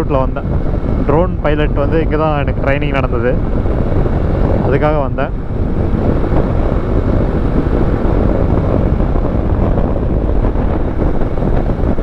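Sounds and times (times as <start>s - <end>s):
road and engine noise: 0.0s - 12.0s
wind rush on microphone: 0.0s - 12.0s.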